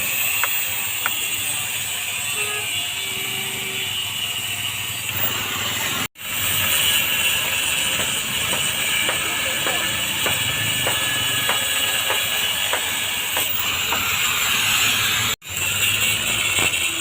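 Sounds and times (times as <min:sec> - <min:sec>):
steady machinery noise: 0:00.0 - 0:17.0.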